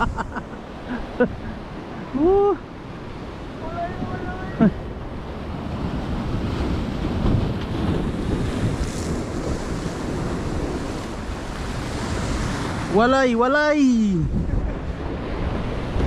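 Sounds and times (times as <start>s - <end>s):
surf washing onto beach: 0.0s - 16.0s
wind buffeting microphone: 1.2s - 16.0s.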